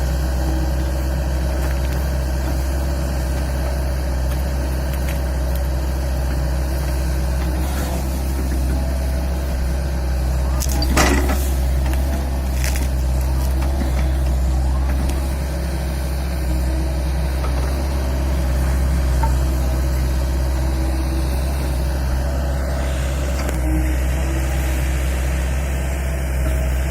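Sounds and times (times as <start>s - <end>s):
excavator diesel engine droning: 0.0s - 26.9s.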